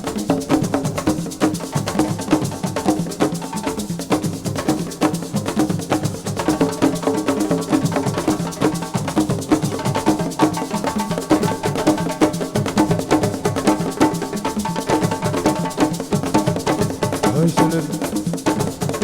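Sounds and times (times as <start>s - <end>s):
fast drum percussion music: 0.0s - 19.0s.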